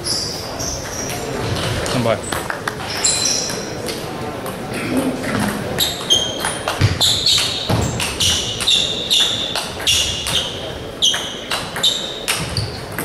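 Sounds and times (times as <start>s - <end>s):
table tennis balls clicking: 0.8s - 13.0s.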